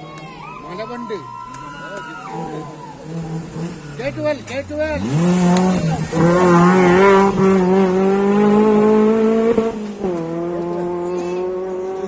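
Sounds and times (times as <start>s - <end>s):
rally car engine revving: 2.1s - 12.0s.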